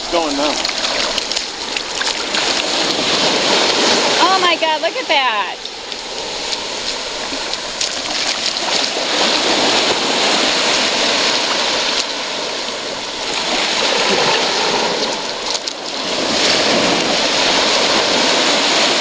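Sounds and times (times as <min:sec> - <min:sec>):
surf washing on sandy beach: 0:00.0 - 0:19.0.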